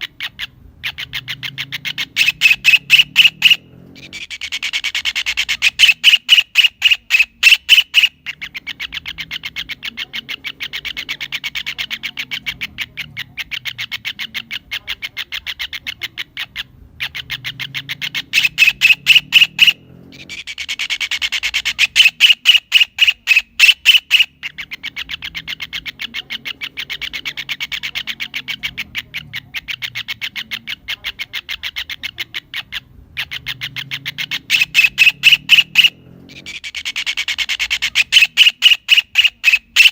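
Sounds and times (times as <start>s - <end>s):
kingfisher calling harsh notes: 0.0s - 39.9s.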